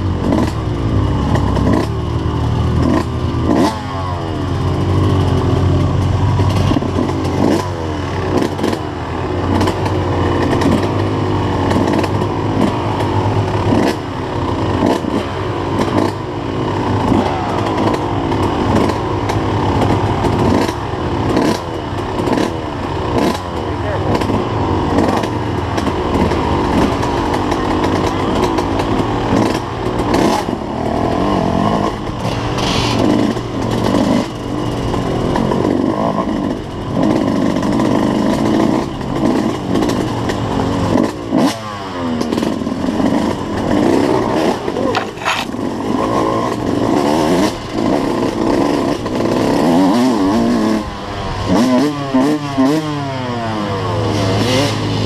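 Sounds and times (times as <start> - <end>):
two-stroke dirt bike engine revving: 0.0 - 55.0.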